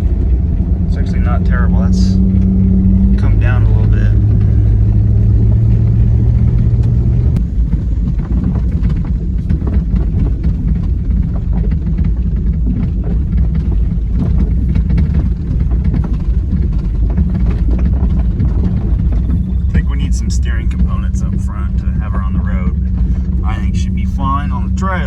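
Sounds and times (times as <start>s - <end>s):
car engine rumbling: 0.0s - 25.0s
steady low hum: 0.0s - 25.0s
ticks and rattles: 0.0s - 25.0s
tyres on dirt road: 0.0s - 25.0s.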